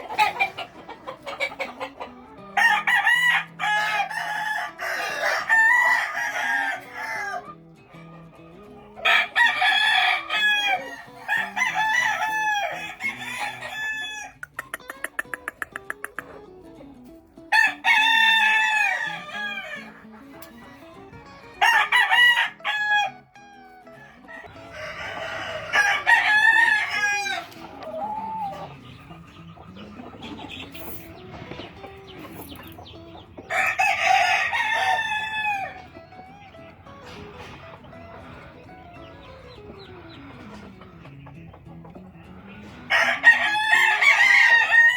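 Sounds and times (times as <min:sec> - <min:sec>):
roosters crowing: 0:00.0 - 0:16.5, 0:17.5 - 0:44.9
rapid clucking: 0:00.0 - 0:44.9.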